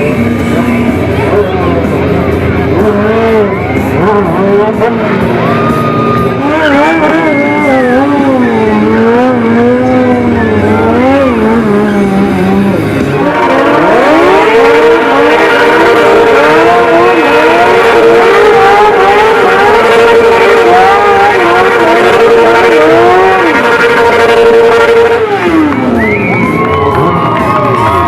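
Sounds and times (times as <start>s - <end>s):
motorcycle engine held at high revs: 0.0s - 27.5s
motorcycle engine revving up and down: 0.0s - 28.0s.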